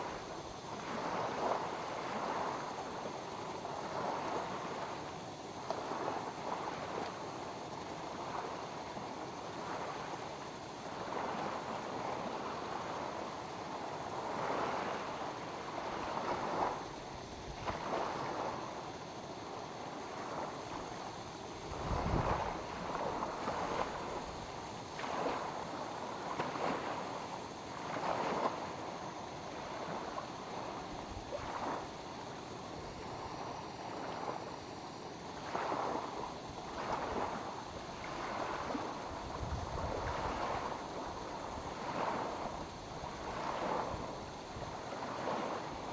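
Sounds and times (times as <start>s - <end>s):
waves lapping on shore: 0.0s - 45.9s.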